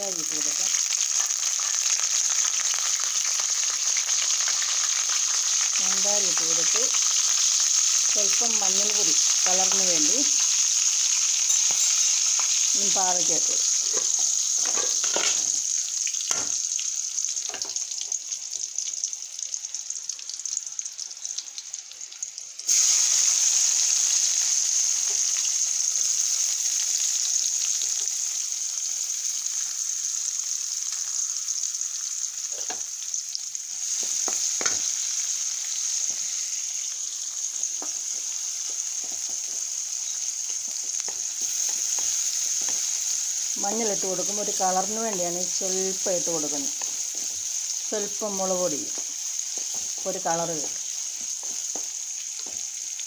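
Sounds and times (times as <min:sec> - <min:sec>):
hot oil sizzling in a wok: 0:00.0 - 0:53.0.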